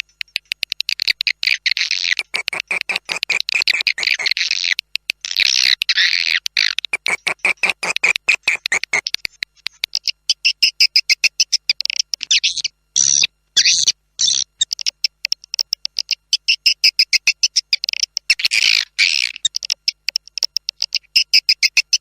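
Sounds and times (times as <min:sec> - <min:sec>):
high twittering chirps: 0:00.4 - 0:22.0.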